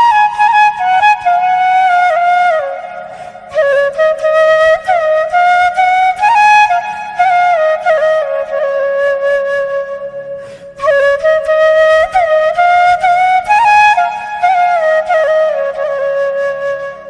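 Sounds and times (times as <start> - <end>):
solo flute melody: 0.0 - 17.0.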